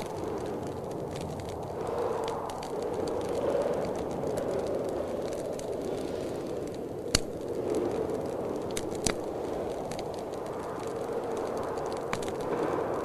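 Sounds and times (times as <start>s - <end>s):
sharp pops of fire: 0.0s - 13.0s
steady rushing noise: 0.0s - 13.0s
wood fire crackling: 0.0s - 13.0s.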